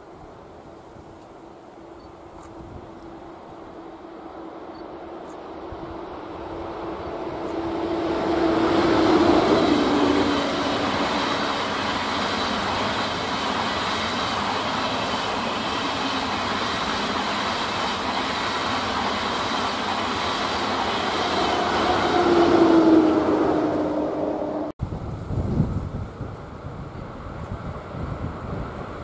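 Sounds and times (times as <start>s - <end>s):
train rolling past: 0.0s - 29.0s.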